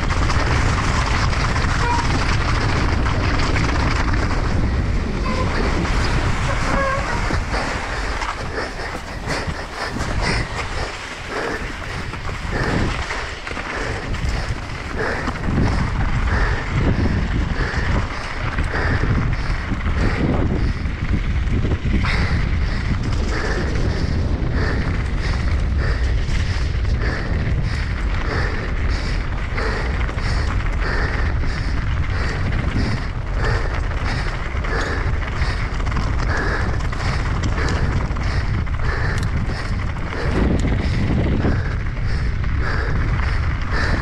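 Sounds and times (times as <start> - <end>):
bike rattling: 0.0 - 44.0
tyres rolling on gravel: 0.0 - 44.0
wind buffeting microphone: 0.0 - 44.0.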